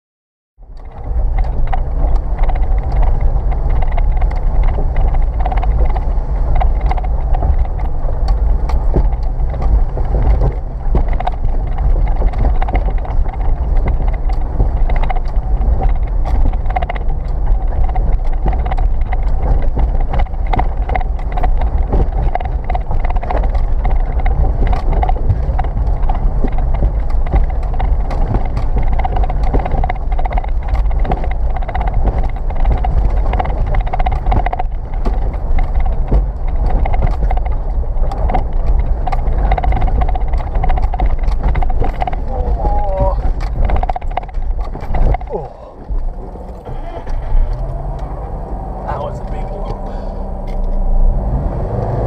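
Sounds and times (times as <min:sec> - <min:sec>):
car engine running under load: 0:00.6 - 0:52.0
tyres and suspension clattering on rocks: 0:00.7 - 0:50.9.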